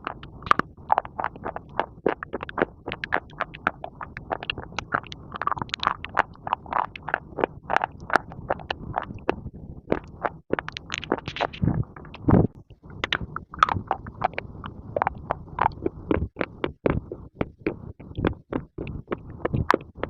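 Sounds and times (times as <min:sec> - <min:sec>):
chewing crunchy clay: 0:00.0 - 0:20.0.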